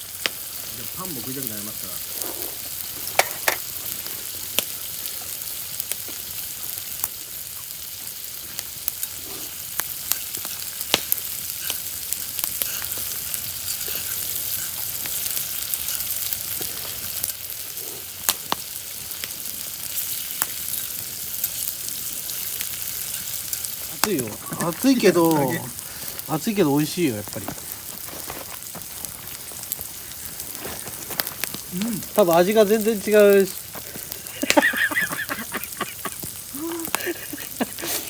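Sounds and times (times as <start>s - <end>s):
food sizzling in hot oil: 0.0s - 38.0s
oil popping and crackling: 0.0s - 38.0s.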